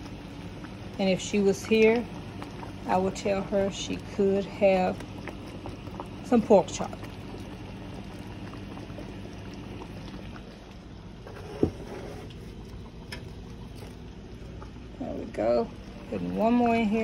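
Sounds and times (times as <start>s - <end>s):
gravy bubbling: 0.0s - 17.0s.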